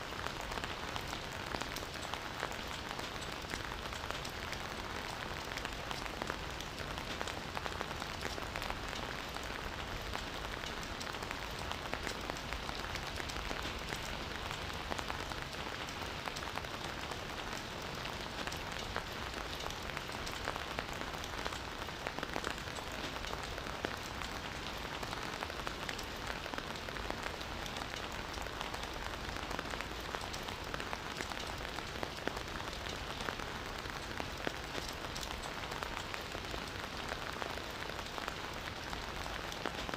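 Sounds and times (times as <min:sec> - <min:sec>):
rain hiss: 0:00.0 - 0:39.9
raindrop ticks: 0:00.1 - 0:39.9.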